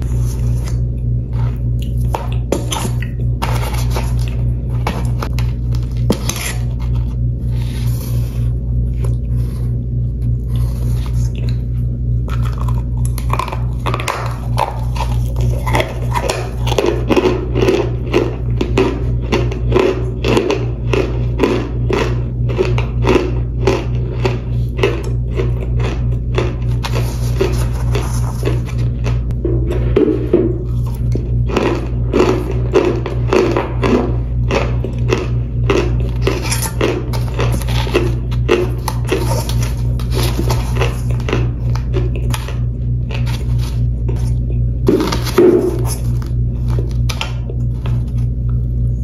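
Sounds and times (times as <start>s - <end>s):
crunching and chewing: 0.0s - 49.0s
low hum: 0.0s - 49.0s.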